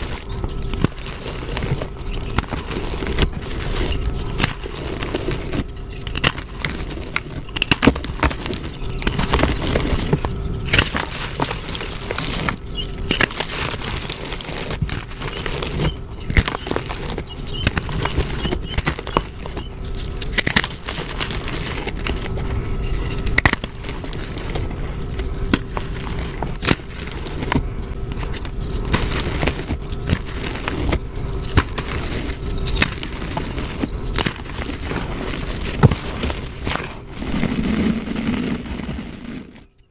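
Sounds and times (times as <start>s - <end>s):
hands crushing chalk blocks: 0.0s - 22.4s, 23.1s - 39.4s.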